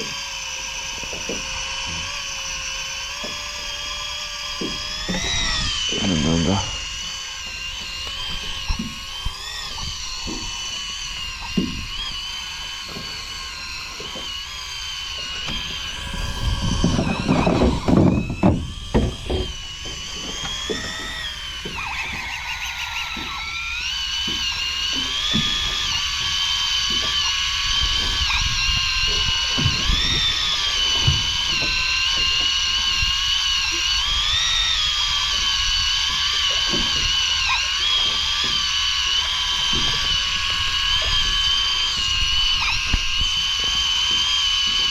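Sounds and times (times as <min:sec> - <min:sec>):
electric fishing reel motor whining: 0:00.0 - 0:44.9.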